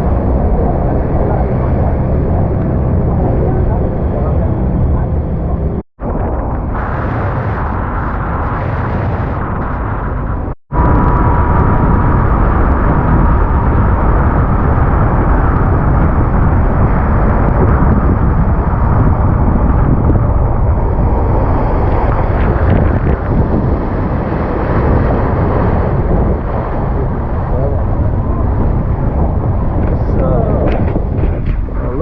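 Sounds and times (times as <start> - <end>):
speedboat engine drone: 0.0 - 32.0
wind buffeting microphone: 0.0 - 32.0.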